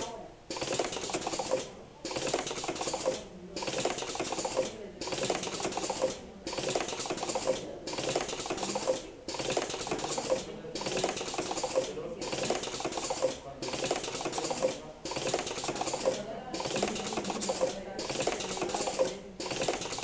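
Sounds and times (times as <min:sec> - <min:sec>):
rapid clicking like typing: 0:00.0 - 0:20.0.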